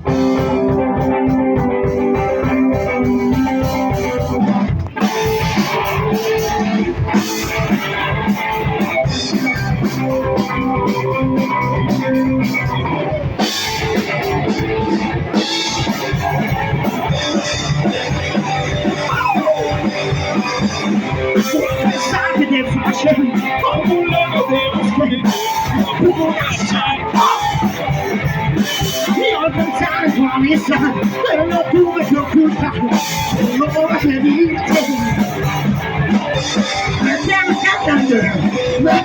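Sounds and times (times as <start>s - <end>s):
live rock band: 0.0s - 39.0s.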